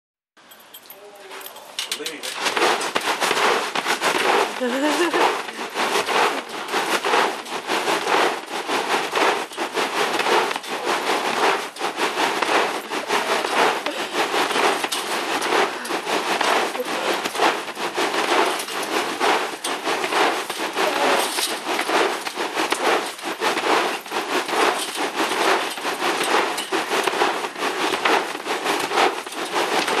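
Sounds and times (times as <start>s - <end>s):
hail clattering on trampoline: 0.9s - 30.0s.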